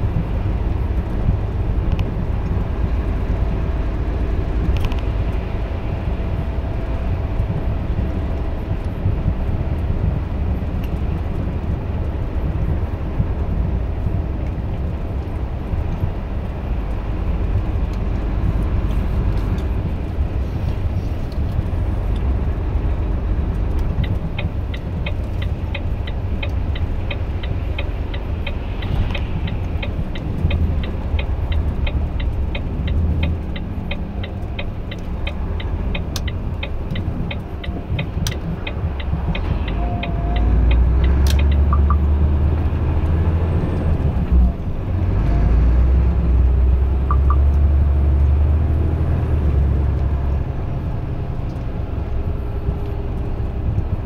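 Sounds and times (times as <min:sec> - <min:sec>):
turn signal ticking: 0:00.0 - 0:45.0, 0:45.9 - 0:48.8, 0:51.4 - 0:54.0
truck engine and tyre rumble: 0:00.0 - 0:54.0.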